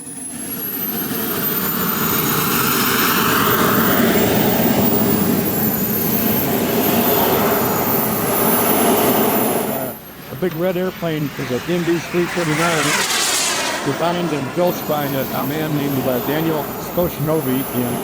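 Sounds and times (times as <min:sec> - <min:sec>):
high-pitched turbine whine: 0:00.0 - 0:18.0
model jet turbine engine roaring: 0:00.0 - 0:18.0.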